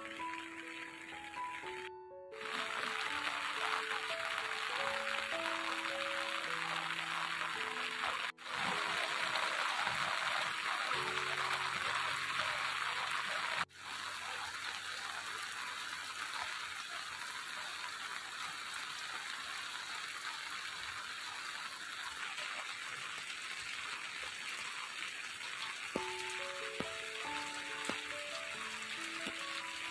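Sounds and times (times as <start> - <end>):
rainwater running down gully: 0.0 - 29.9
steady rain falling: 0.0 - 29.9.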